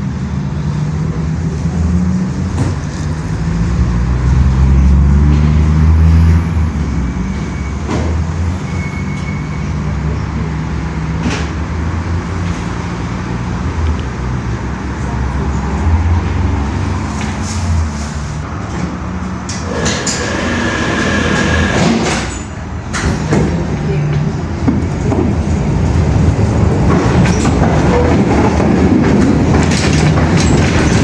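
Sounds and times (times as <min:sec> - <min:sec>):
vehicle engine rumbling: 0:00.0 - 0:31.0.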